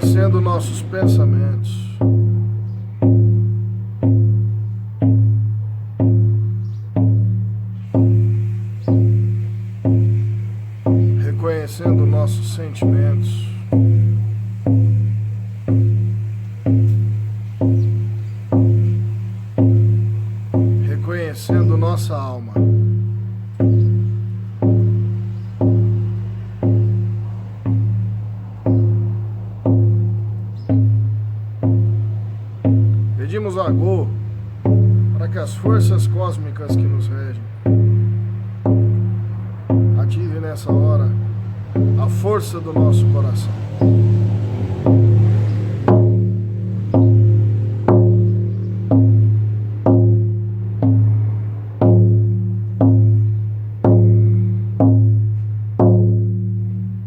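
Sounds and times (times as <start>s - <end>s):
frame drum beaten: 0.0s - 57.0s.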